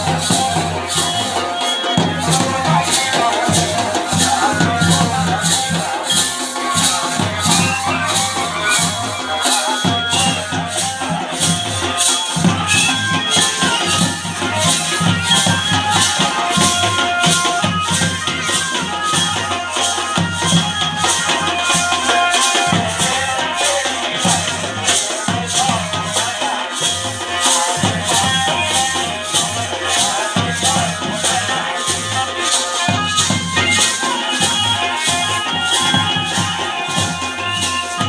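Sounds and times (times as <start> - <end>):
folk music: 0.0 - 38.0.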